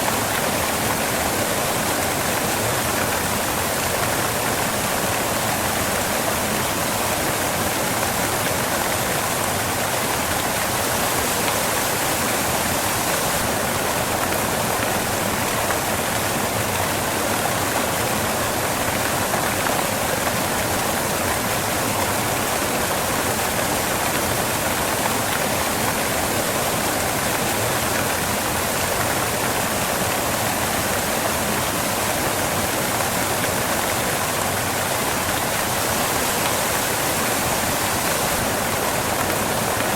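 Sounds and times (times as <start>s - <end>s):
waterfall crashing onto rocks: 0.0s - 39.9s.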